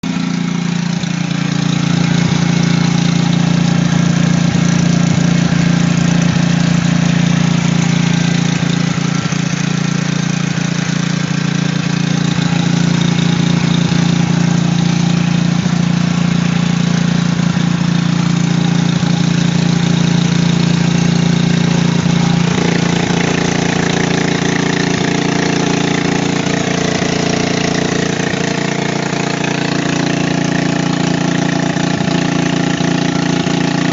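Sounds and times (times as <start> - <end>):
portable generator running: 0.0 - 33.9.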